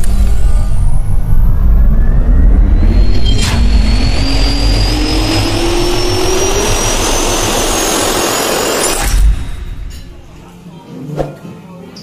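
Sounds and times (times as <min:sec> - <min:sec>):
jet turbine spooling up: 0:00.0 - 0:10.6.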